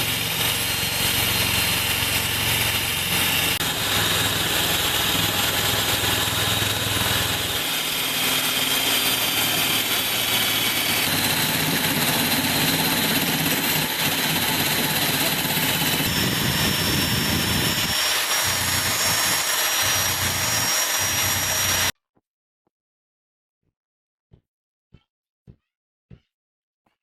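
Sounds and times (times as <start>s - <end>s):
workshop machine running: 0.0s - 21.9s.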